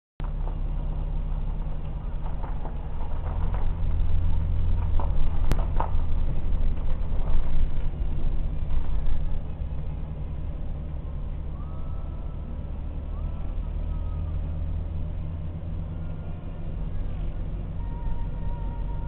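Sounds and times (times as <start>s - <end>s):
electric train rumbling on rails: 0.2s - 19.0s.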